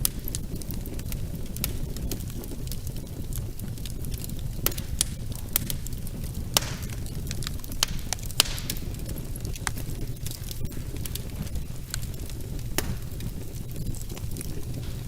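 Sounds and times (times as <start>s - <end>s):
fire crackles and pops: 0.0s - 15.0s
rumble of flames: 0.0s - 15.0s.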